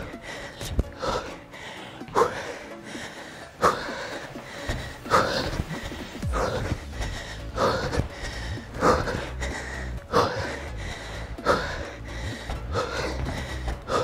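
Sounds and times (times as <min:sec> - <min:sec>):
man breathing out hard: 0:00.0 - 0:14.0.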